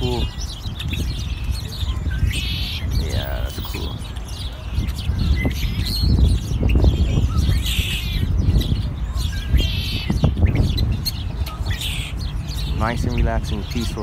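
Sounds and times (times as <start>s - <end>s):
songbirds chirping and whistling: 0.0s - 14.0s.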